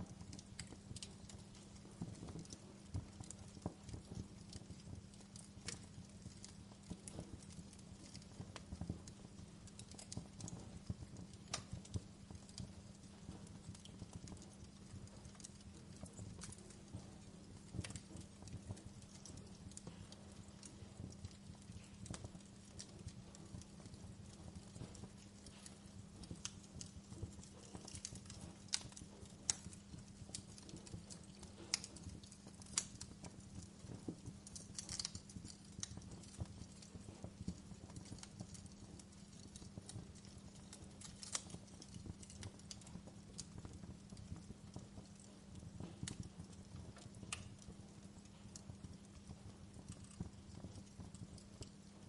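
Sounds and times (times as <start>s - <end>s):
faint low hum: 0.0s - 52.0s
wood fire crackling: 0.0s - 52.0s
sharp pops and snaps: 0.1s - 52.0s.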